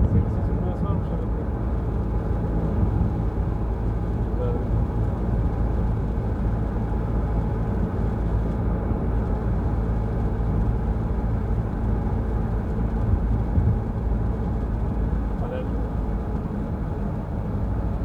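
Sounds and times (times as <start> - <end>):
car engine hum: 0.0 - 18.0
road rumble: 0.0 - 18.0.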